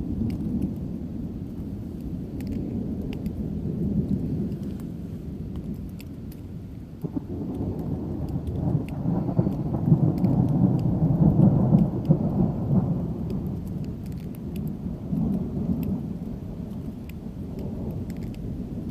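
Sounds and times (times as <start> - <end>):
rain pattering: 0.0 - 18.9
rolling thunder: 0.0 - 18.9.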